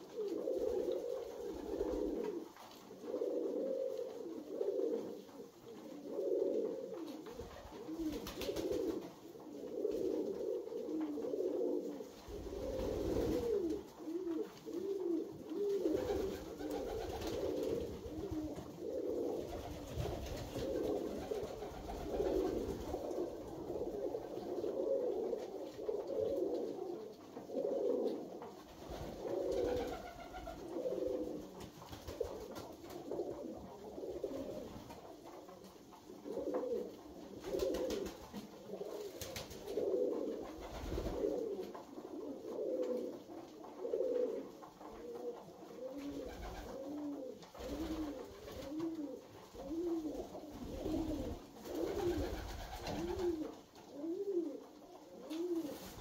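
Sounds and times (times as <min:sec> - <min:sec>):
pigeons cooing: 0:00.0 - 0:56.0.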